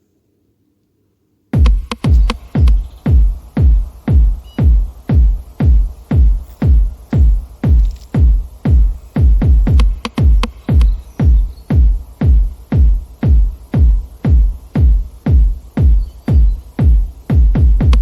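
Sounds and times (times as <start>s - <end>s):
electronic dance music: 1.6s - 18.0s.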